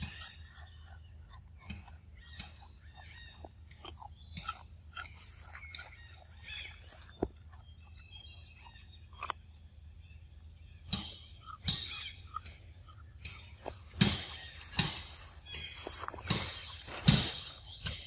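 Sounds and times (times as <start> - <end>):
monkey chewing crisp food: 0.0 - 9.8, 10.9 - 18.0.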